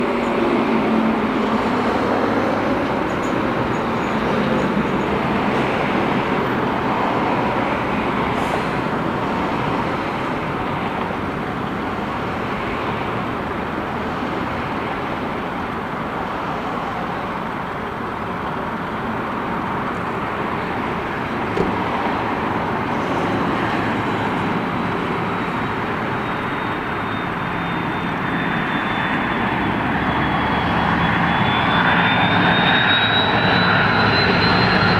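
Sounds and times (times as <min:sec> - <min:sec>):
high engine whine: 0:00.0 - 0:34.9
jet airliner roar: 0:00.0 - 0:34.9.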